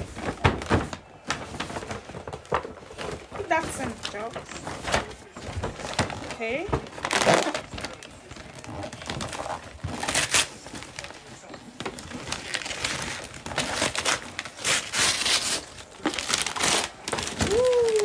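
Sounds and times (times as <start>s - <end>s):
wrapping paper tearing and crinkling: 0.0s - 18.0s.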